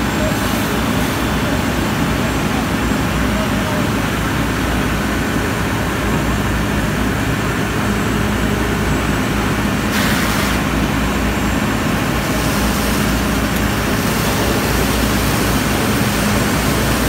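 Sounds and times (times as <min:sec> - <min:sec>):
fire engine running: 0:00.0 - 0:17.0.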